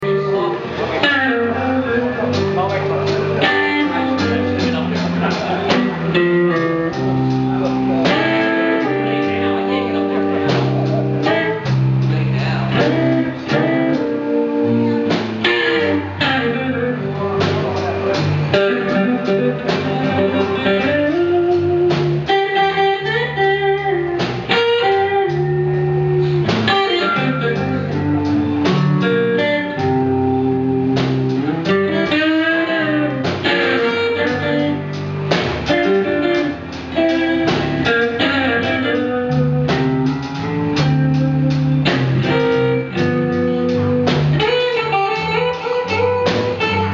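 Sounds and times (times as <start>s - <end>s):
blues guitar music: 0.0s - 46.9s.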